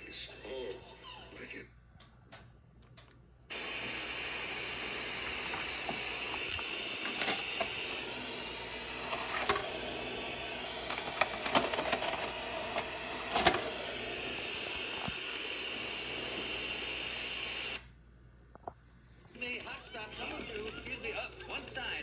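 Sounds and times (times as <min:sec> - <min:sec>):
tv static hiss: 0:00.0 - 0:01.8, 0:03.5 - 0:22.0.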